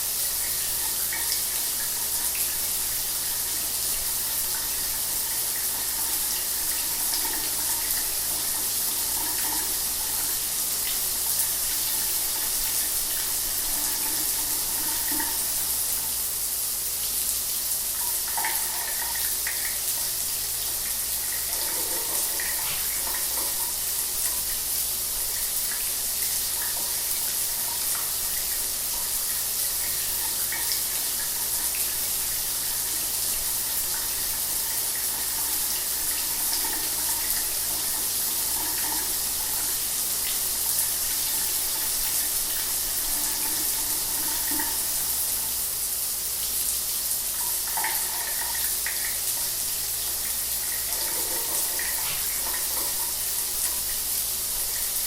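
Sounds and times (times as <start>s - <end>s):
shower water spraying: 0.0s - 55.0s.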